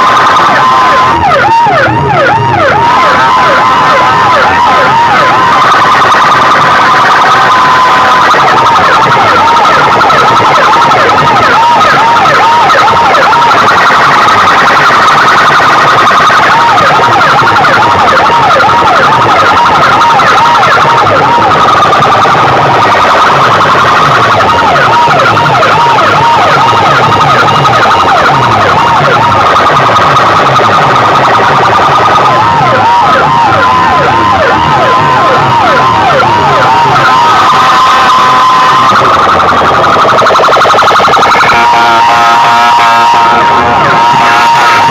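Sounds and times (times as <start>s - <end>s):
steady high tone: 0.0s - 44.9s
warbling siren tone: 0.0s - 44.9s.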